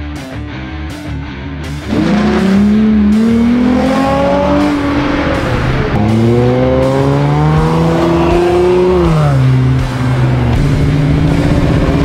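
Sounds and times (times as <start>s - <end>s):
car engine revving: 1.7s - 12.0s.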